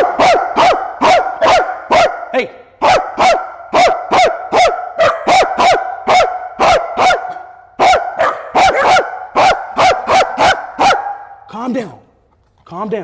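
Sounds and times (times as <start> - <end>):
dog barking excitedly: 0.0 - 11.4.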